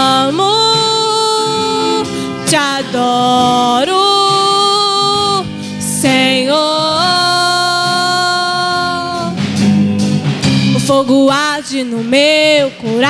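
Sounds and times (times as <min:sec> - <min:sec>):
woman singing into a microphone: 0:00.0 - 0:09.4, 0:10.7 - 0:13.0
backing music: 0:00.0 - 0:13.0.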